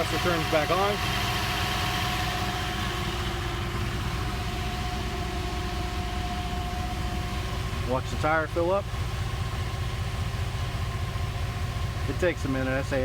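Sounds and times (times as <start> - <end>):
air compressor running: 0.0 - 12.8
engine idling: 0.0 - 13.0.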